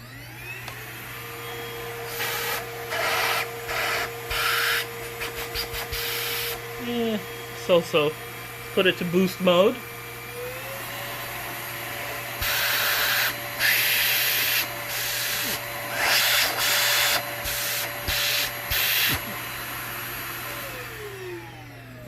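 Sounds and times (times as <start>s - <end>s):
vacuum motor whine: 0.0s - 22.0s.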